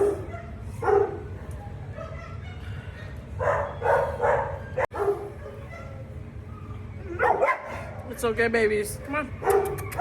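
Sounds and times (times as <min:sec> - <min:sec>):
dogs barking: 0:00.0 - 0:08.1, 0:09.4 - 0:10.0.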